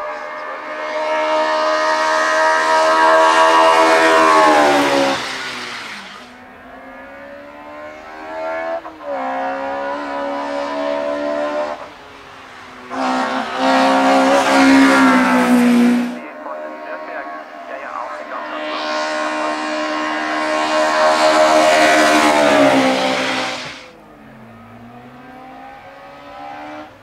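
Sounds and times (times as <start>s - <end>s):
race car engines at high revs: 0.0s - 27.0s.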